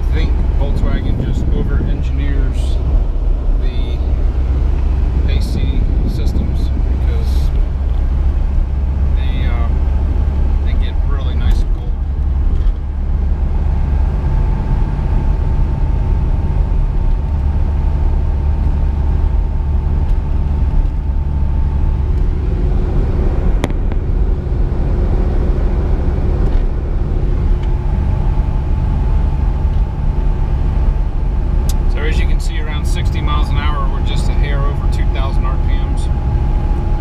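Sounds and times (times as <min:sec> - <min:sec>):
engine and road rumble in car: 0:00.0 - 0:37.0.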